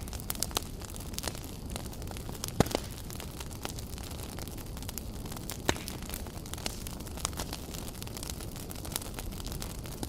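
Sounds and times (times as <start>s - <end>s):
campfire crackling and popping: 0.0s - 10.0s
low rumble of flames: 0.0s - 10.0s.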